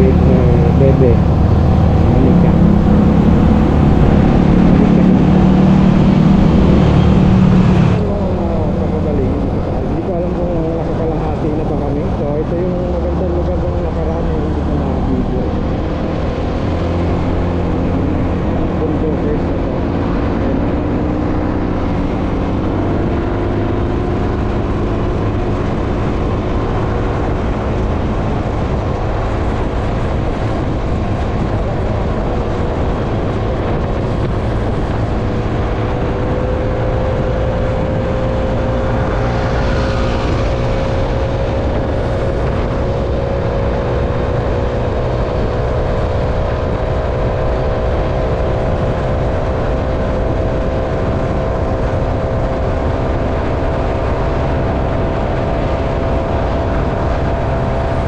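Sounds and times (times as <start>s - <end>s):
engine and road rumble: 0.0s - 58.0s
rising whine: 0.0s - 58.0s.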